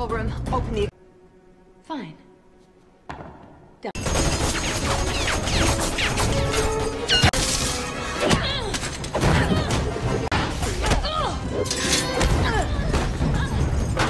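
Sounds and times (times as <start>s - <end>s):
action film score: 0.0s - 14.0s.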